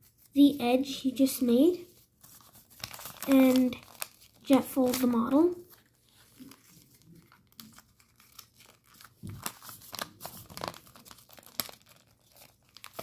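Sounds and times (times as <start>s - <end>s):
paper being folded: 1.1s - 13.0s.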